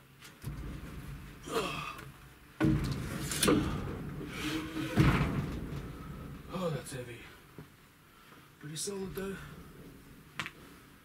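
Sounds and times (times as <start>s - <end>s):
low rumbling handling noise: 0.0s - 11.0s.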